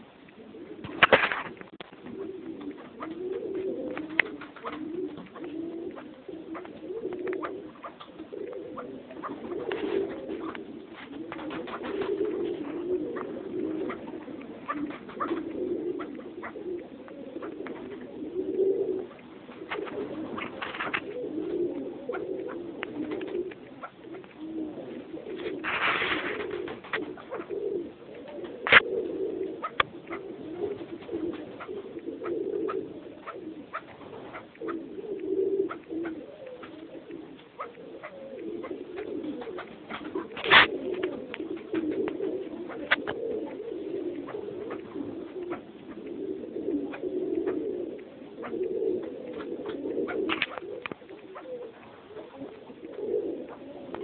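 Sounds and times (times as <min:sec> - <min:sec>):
birds cooing: 0:00.0 - 0:54.0.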